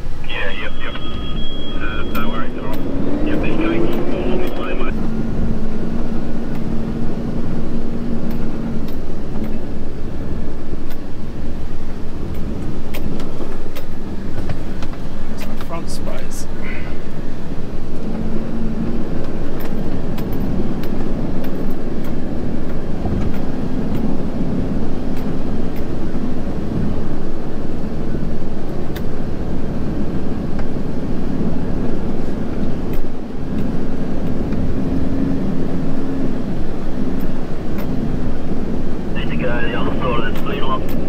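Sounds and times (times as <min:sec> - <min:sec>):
truck engine rumble from inside cab: 0:00.0 - 0:41.0.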